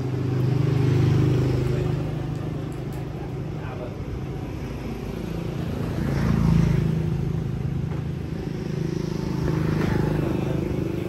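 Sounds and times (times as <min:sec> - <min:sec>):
vehicle engine passing: 0:00.0 - 0:11.0.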